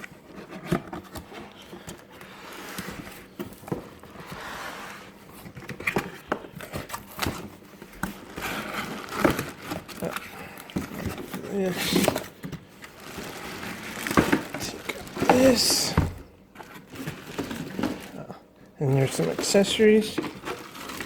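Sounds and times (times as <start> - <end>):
cardboard scraping and rustling: 0.0 - 21.0.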